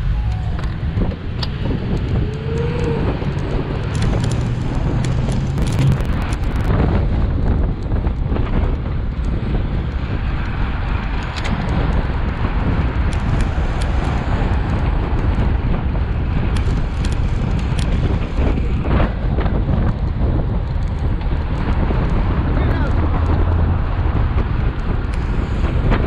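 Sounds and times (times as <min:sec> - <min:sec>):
cars passing: 0:00.0 - 0:07.4, 0:08.9 - 0:19.5, 0:20.7 - 0:26.0
wind buffeting microphone: 0:00.0 - 0:26.0.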